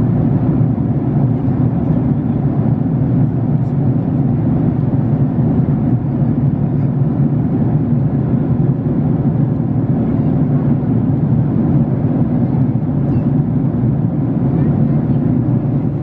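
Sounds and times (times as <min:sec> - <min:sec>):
airliner cabin noise: 0:00.0 - 0:16.0.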